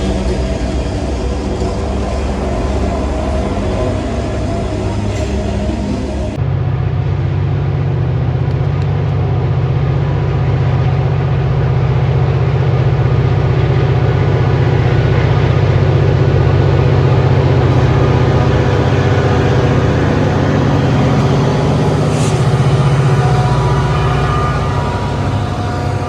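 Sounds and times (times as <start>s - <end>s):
diesel locomotive engine humming: 0.0s - 26.0s.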